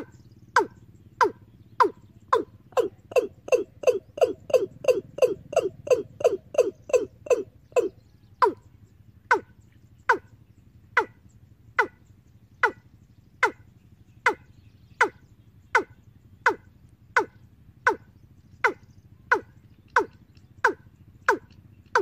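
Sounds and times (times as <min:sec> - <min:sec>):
recorded bird call over loudspeaker: 0:00.0 - 0:22.0.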